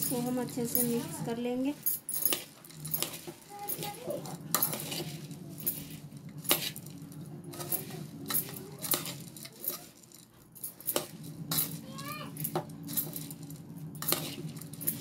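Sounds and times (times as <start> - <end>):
dry rustling of puffed rice: 0.0 - 15.0.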